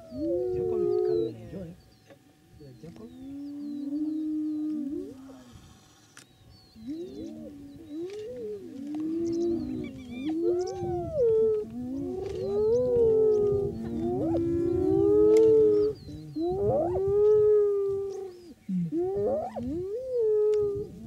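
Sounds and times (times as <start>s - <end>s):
wild animals howling: 0.0s - 1.8s, 2.8s - 6.0s, 6.8s - 21.0s.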